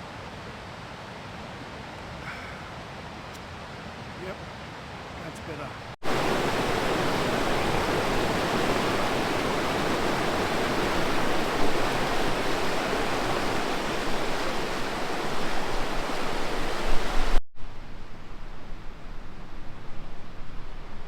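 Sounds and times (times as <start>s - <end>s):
river water rushing: 0.0s - 18.2s.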